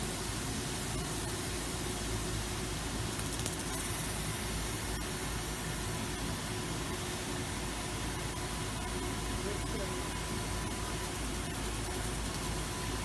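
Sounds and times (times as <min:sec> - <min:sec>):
laser cutting machine hissing: 0:00.0 - 0:13.0.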